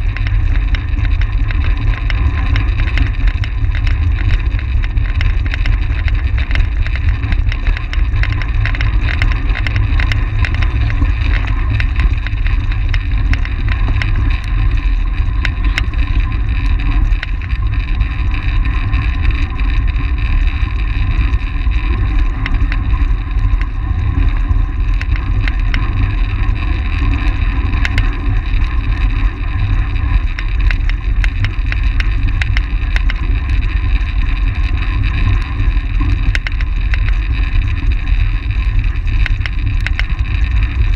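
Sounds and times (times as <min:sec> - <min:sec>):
small ticks and rattles: 0:00.0 - 0:40.9
whir of bicycle tyres and drivetrain: 0:00.0 - 0:40.9.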